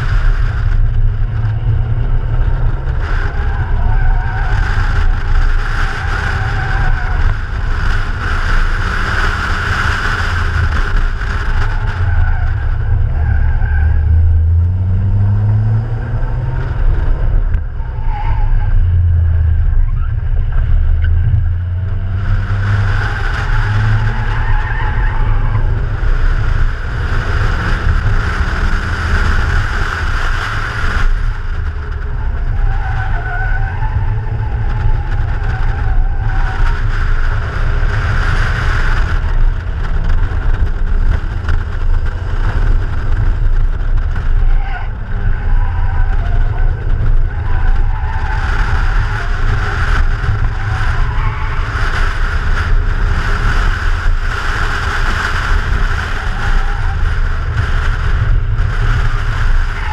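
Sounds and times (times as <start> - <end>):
car engine driven hard: 0.0 - 59.9
wind rumble on microphone: 0.0 - 59.9.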